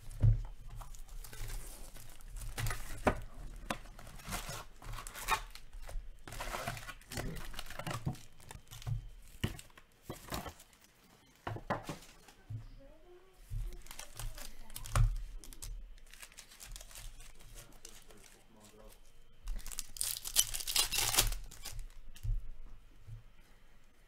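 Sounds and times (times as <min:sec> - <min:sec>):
foil packs crinkling: 0:00.0 - 0:11.0, 0:13.5 - 0:22.3.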